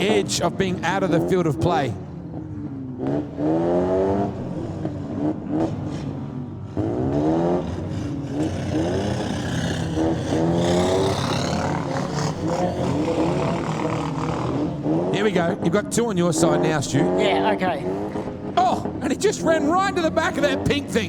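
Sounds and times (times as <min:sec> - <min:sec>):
car engines revving: 0:00.0 - 0:21.0
steady engine drone: 0:00.0 - 0:21.0.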